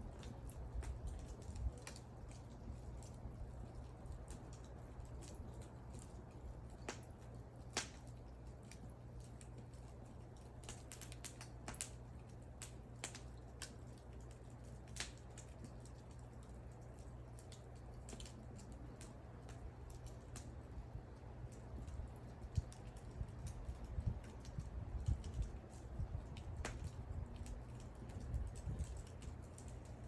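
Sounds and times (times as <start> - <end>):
low rumble of burning: 0.0 - 30.0
wood fire crackling and popping: 0.0 - 30.0.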